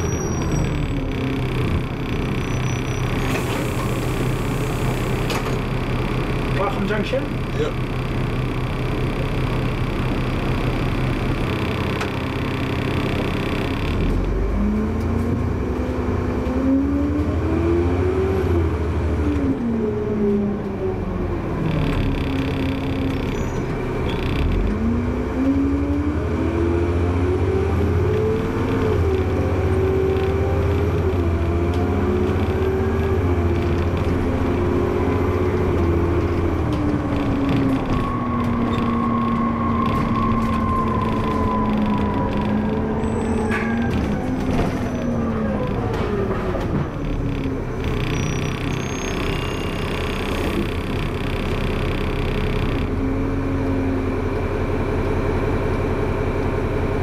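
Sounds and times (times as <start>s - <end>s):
bus engine whining: 0.0s - 57.0s.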